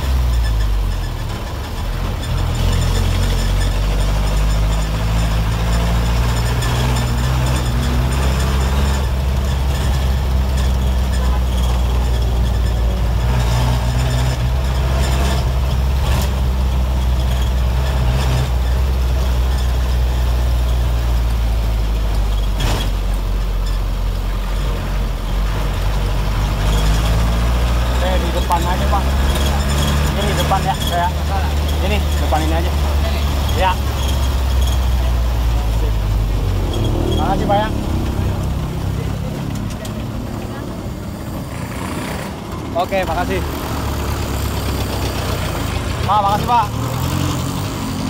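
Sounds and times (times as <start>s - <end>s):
bus diesel engine drone: 0.0s - 48.0s.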